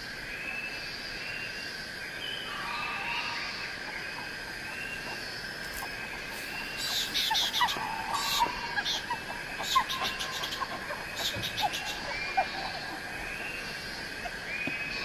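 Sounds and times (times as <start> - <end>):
frogs chirping: 0.0 - 15.0
insects trilling: 0.0 - 15.0.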